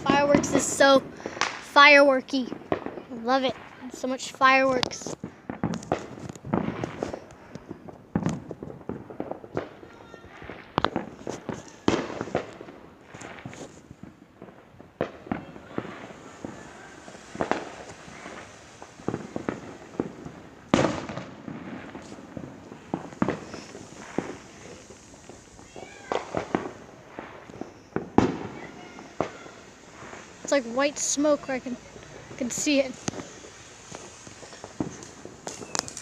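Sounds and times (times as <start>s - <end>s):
fireworks bangs and pops: 0.0s - 36.0s.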